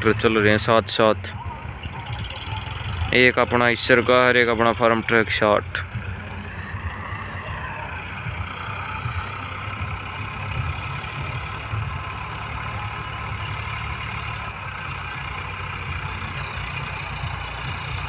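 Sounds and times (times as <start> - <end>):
distant tractor engines running: 0.0 - 18.0.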